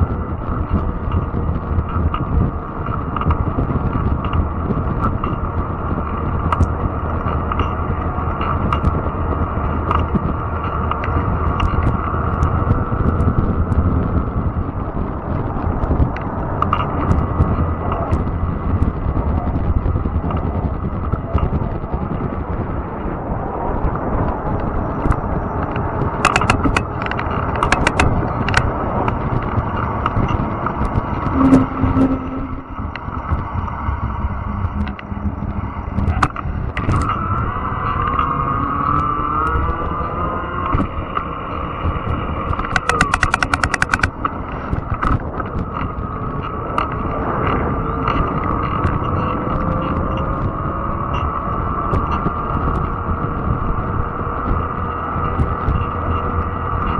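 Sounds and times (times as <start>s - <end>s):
sharp ticks and snaps: 0.0s - 23.1s, 23.8s - 31.8s, 32.4s - 56.9s
bike clicks and rattles: 0.0s - 56.9s
tyres rumbling on trail: 0.0s - 56.9s
wind on microphone: 0.0s - 56.9s.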